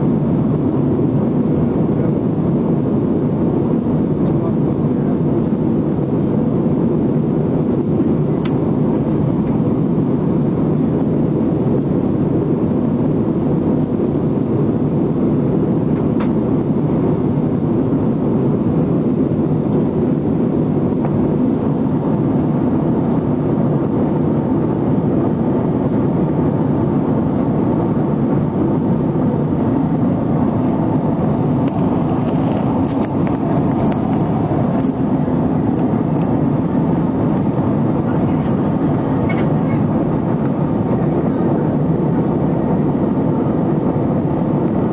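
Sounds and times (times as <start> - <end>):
jet engine cabin roar: 0.0 - 44.9.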